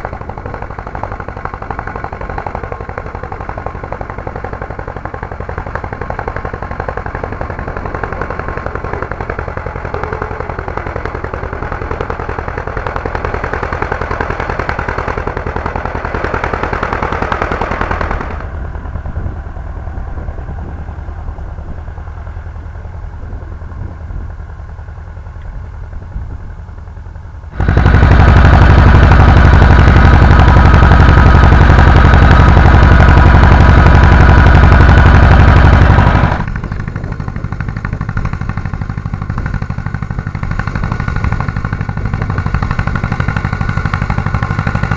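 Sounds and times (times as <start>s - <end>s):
tractor diesel engine knocking: 0.0s - 44.9s.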